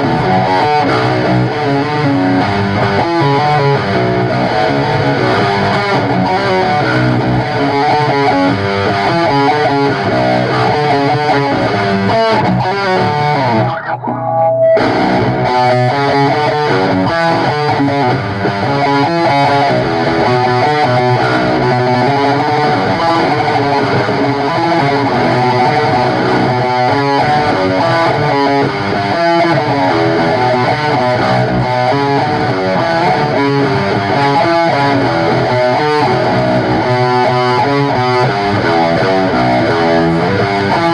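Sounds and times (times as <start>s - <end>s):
bass guitar: 0.0s - 40.9s
distorted electric guitar: 0.0s - 40.9s.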